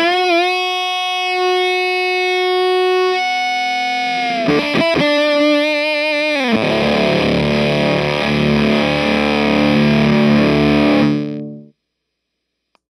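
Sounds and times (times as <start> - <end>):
fuzzed electric guitar: 0.0 - 11.7.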